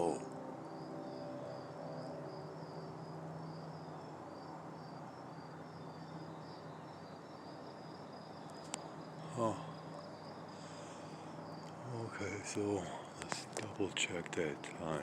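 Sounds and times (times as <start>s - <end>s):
crickets chirping: 0.0s - 15.0s
distant aircraft engine drone: 0.0s - 15.0s.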